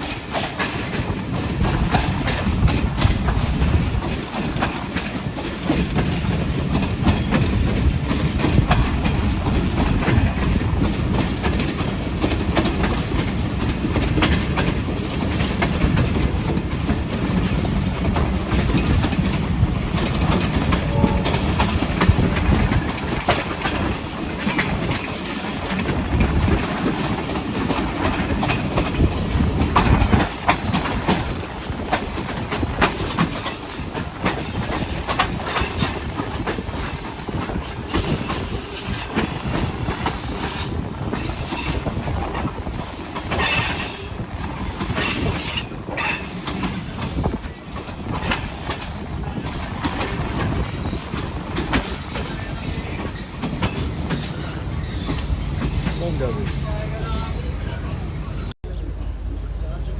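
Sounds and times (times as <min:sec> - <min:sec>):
wheels clattering over rail joints: 0:00.0 - 0:58.5
train carriages rumbling: 0:00.0 - 0:59.9.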